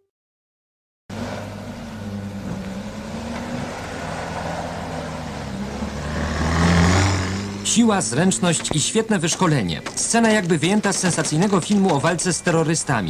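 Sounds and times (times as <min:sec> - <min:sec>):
vehicle engine humming: 0:01.1 - 0:13.0.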